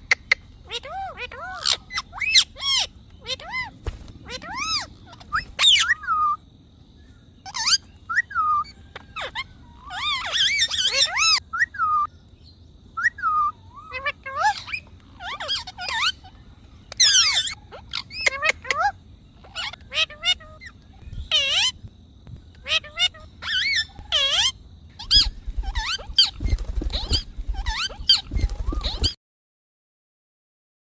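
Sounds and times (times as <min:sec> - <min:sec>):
parrot squawking and whistling: 0:00.1 - 0:03.7, 0:04.3 - 0:06.4, 0:07.4 - 0:12.1, 0:13.0 - 0:16.4, 0:17.0 - 0:21.7, 0:22.6 - 0:29.2.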